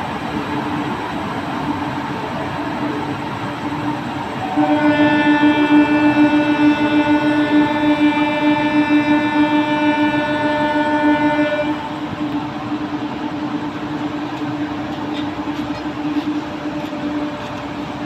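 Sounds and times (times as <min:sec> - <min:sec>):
electric train multi-tone sound: 0:00.0 - 0:18.0
train low hum: 0:00.0 - 0:18.0.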